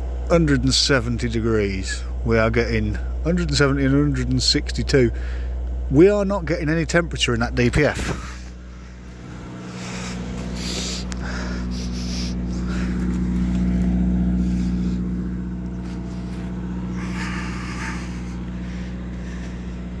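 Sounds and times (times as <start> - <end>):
diesel engine running at raised revs: 0.0 - 20.0.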